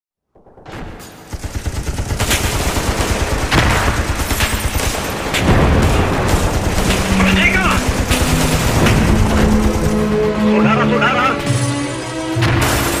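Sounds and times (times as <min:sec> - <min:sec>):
rapid gunfire crackle: 0:00.4 - 0:13.0.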